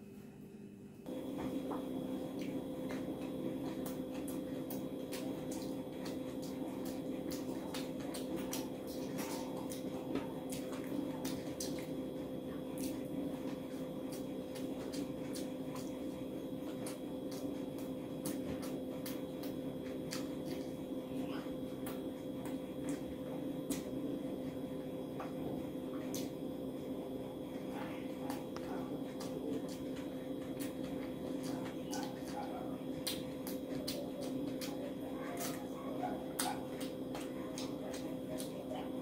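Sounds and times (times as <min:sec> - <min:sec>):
steady low hum: 0:00.0 - 0:39.0
fingers squishing rice: 0:01.1 - 0:39.0
chewing and lip smacks: 0:01.3 - 0:38.9.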